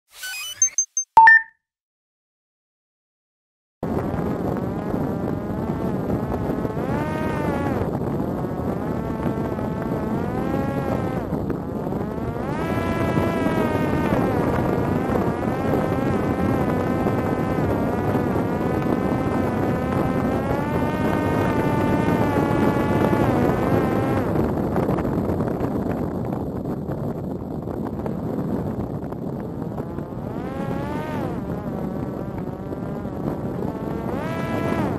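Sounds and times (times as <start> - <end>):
drone motor and propeller buzzing: 3.8 - 34.9.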